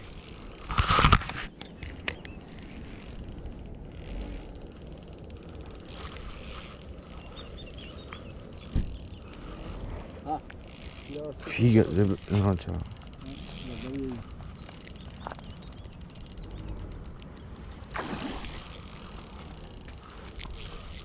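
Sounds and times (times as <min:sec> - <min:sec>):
spinning reel cranking whir: 0:00.0 - 0:01.1, 0:02.3 - 0:21.0.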